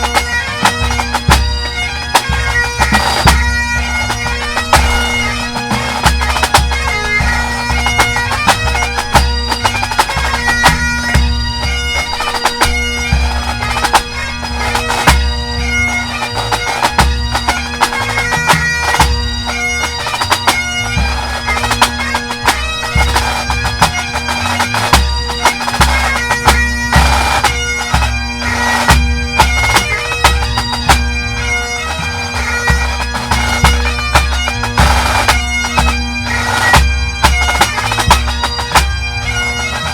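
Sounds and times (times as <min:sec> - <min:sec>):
bagpipes playing melody with drone: 0:00.0 - 0:39.9.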